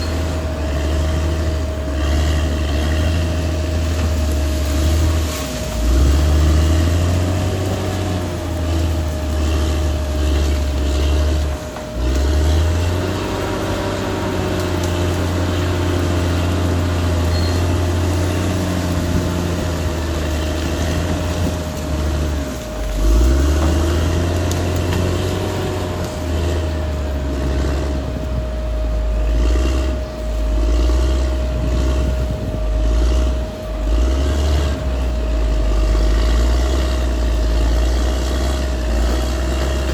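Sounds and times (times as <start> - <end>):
bulldozer diesel engine under load: 0.0 - 39.9
steady high whine: 0.0 - 39.9.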